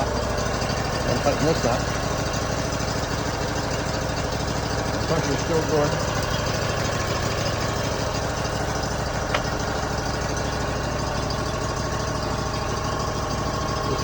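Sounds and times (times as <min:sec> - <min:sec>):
sawmill engine idling: 0:00.0 - 0:14.0.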